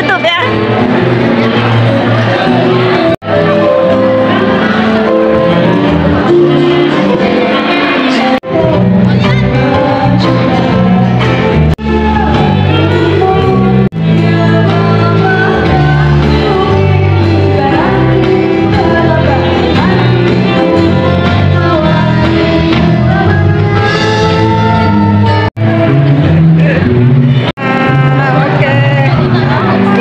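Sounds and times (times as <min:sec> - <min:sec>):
singing with music: 0:00.0 - 0:30.0
steady bass line: 0:00.0 - 0:30.0.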